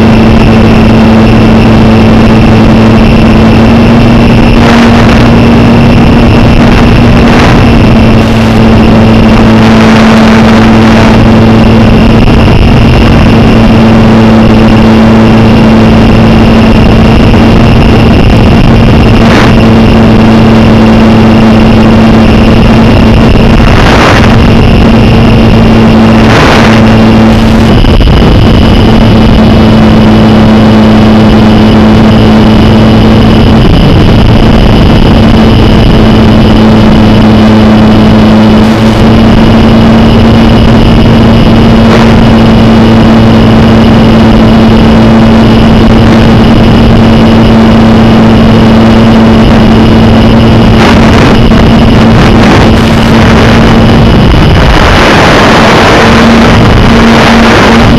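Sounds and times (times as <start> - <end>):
low hum: 0.0 - 57.9
radio signal crackles: 0.0 - 57.9
static hiss: 0.1 - 57.9.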